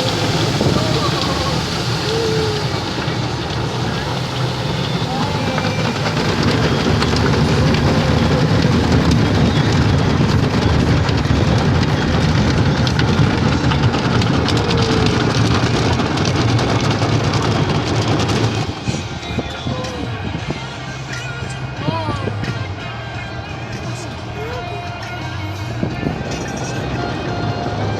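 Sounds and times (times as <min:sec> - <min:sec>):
machinery rumble: 0:00.0 - 0:27.9
water spraying on car: 0:00.0 - 0:27.9.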